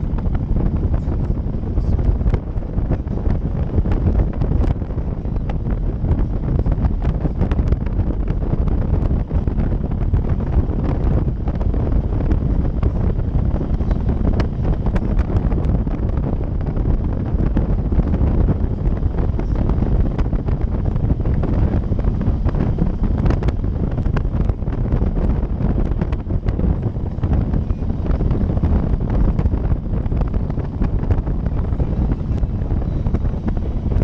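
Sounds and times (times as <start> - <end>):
wind blasting over microphone: 0.0 - 34.0.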